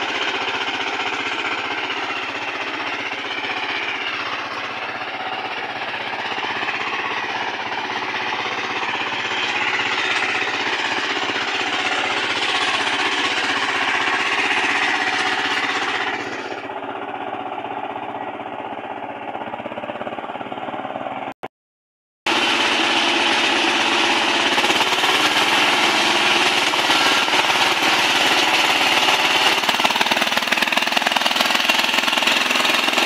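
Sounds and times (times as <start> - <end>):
power tiller engine chugging: 0.0 - 21.3, 22.3 - 33.0.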